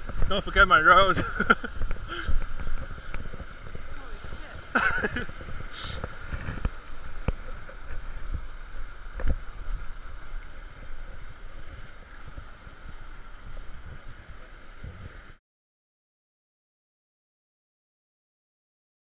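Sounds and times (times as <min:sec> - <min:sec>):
river rushing over stones: 0:00.0 - 0:15.4
wind buffeting microphone: 0:00.0 - 0:15.4.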